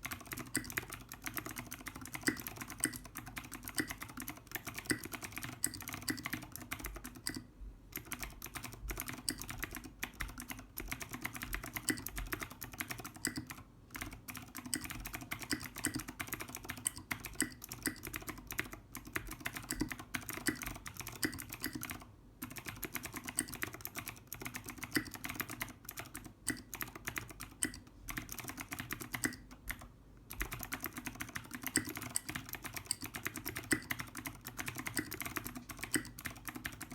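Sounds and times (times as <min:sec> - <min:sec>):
fast typing on mechanical keyboard: 0:00.0 - 0:36.9.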